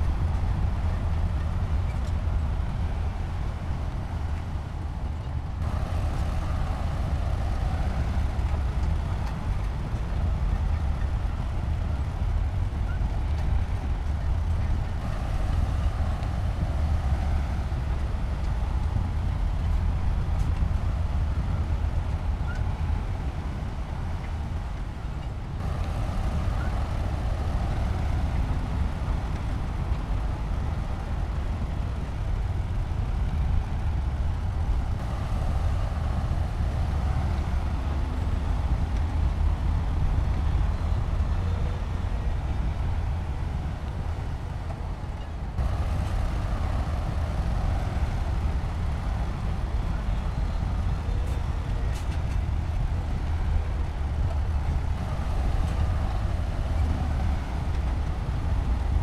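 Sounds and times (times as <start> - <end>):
diesel construction machinery rumbling: 0.0 - 59.0.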